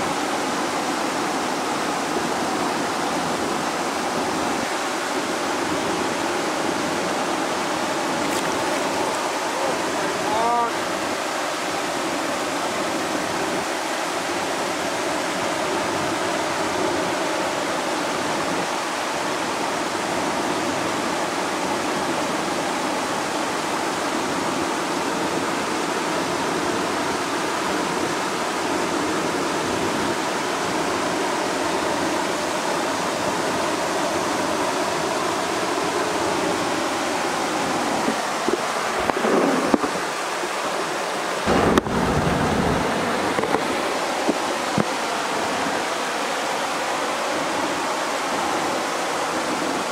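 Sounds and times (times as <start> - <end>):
water rushing over weir: 0.0 - 49.9.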